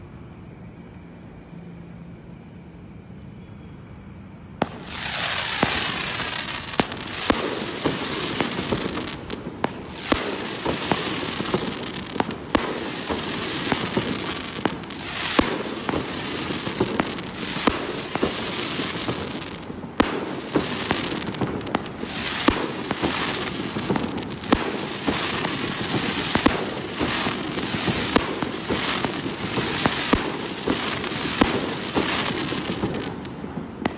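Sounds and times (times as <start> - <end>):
fireworks barrage: 4.6 - 33.9.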